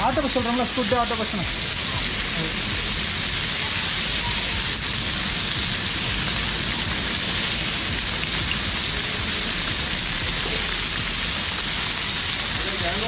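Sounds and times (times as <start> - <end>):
fish sizzling on griddle: 0.0 - 13.0.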